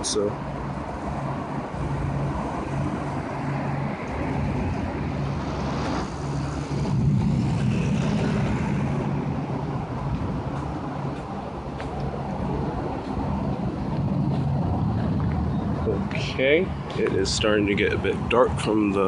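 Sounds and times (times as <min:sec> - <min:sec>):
wind roaring: 0:00.0 - 0:19.0
low hum: 0:00.5 - 0:18.8.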